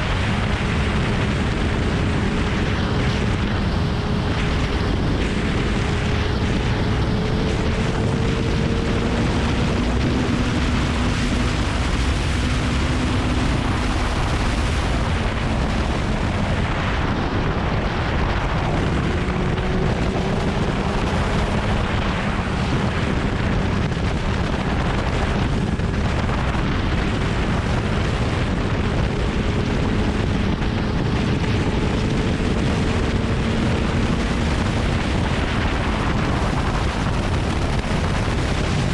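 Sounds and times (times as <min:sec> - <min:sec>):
motorcycle engine at speed: 0:00.0 - 0:38.9
wind buffeting microphone: 0:00.0 - 0:38.9.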